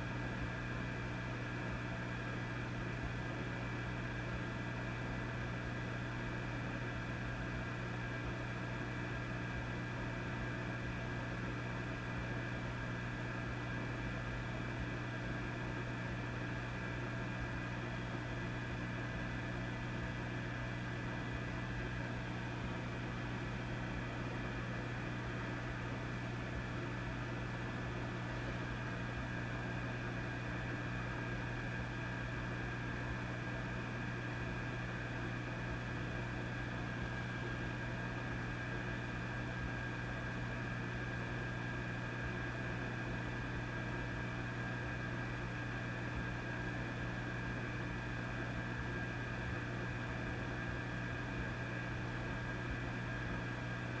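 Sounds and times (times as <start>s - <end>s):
amplifier mains hum: 0.0s - 54.0s.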